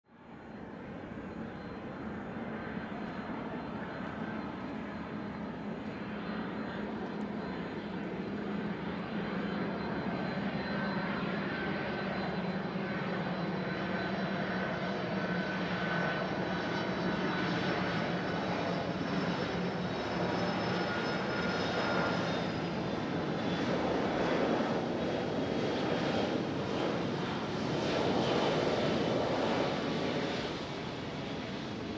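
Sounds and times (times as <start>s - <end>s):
jet engines whining: 0.6s - 31.9s.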